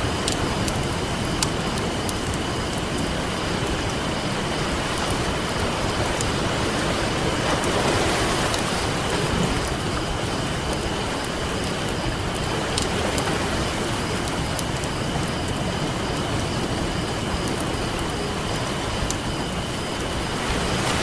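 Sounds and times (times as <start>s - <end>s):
campfire crackling: 0.0s - 21.0s
ocean waves: 0.0s - 21.0s.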